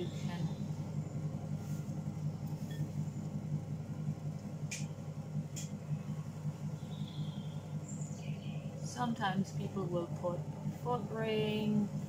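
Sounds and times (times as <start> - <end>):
pottery wheel humming: 0.0 - 12.0.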